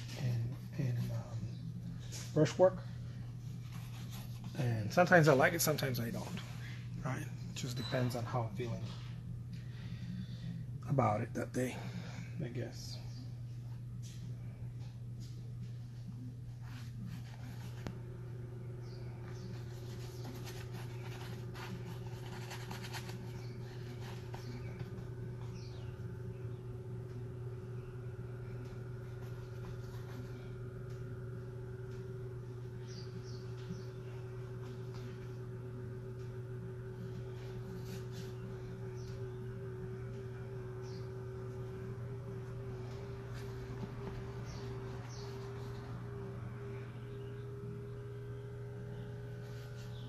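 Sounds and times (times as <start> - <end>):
low room hum: 0.0 - 50.0.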